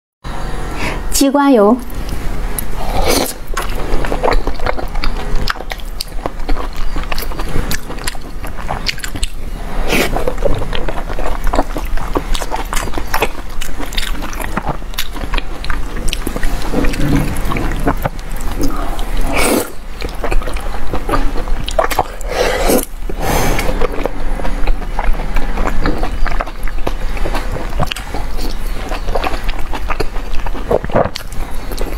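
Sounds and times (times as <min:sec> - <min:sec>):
close chewing and mouth clicks: 0:01.9 - 0:31.9.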